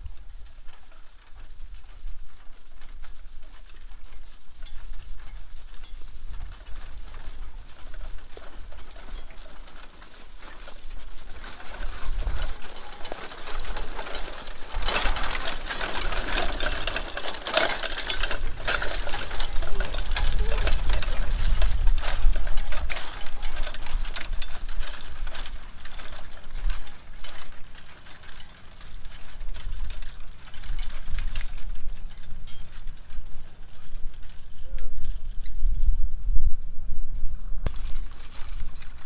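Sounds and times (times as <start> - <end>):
harness and plow rattling: 0.0 - 35.8, 37.7 - 39.0.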